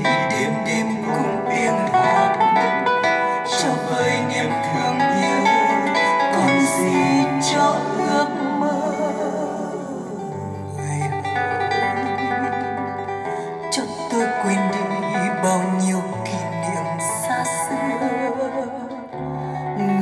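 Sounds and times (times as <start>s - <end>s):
person singing: 0.0s - 20.0s
plucked strings: 0.0s - 20.0s.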